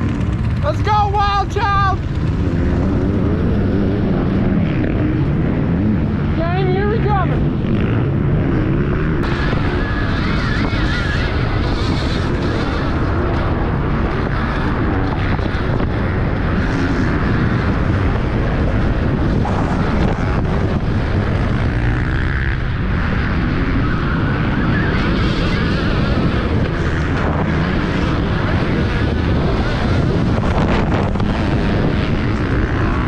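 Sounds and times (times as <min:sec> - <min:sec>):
vehicle running noise: 0:00.0 - 0:33.0
wind rushing across microphone: 0:00.0 - 0:33.0.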